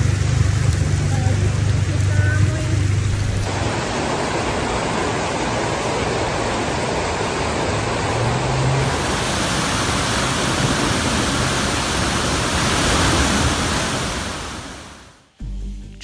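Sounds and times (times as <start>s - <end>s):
floodwater rushing: 0.0s - 15.3s.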